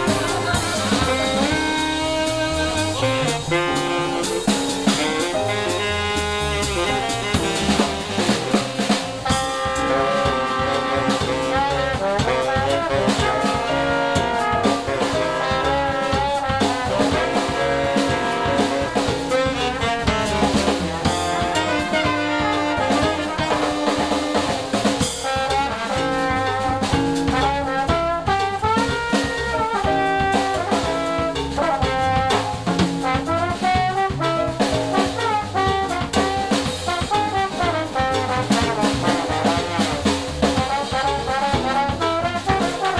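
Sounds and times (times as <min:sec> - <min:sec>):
jazz band playing: 0:00.0 - 0:42.9.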